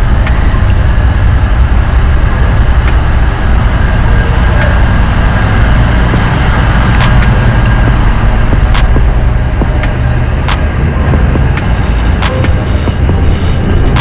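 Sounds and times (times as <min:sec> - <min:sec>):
motorcycle engine and road rumble: 0:00.0 - 0:14.0
sharp ticks: 0:00.0 - 0:14.0
wind buffeting microphone: 0:00.0 - 0:14.0.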